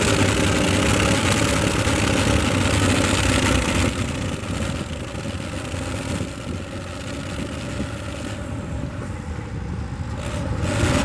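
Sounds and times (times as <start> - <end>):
tractor engine under heavy load: 0.0 - 11.0.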